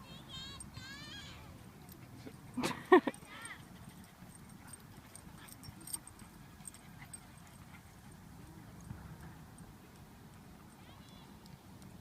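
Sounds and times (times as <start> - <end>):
light clicks and jingles: 0.5 - 12.0.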